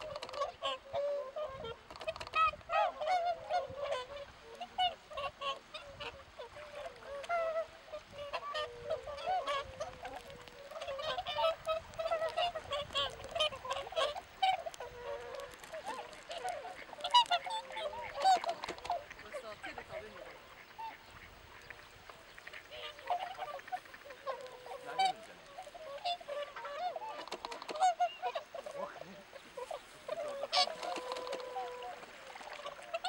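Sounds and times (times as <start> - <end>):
swans calling: 0.0 - 33.0.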